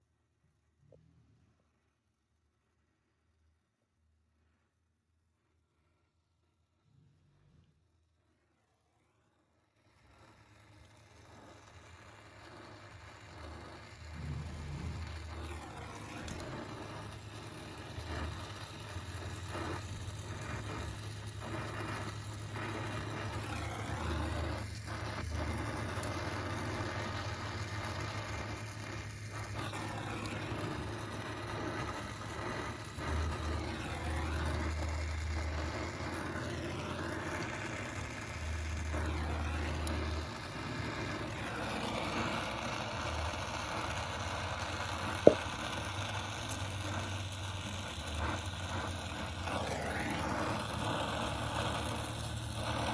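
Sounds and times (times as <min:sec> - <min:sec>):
torch flame rushing: 0:09.8 - 0:52.9.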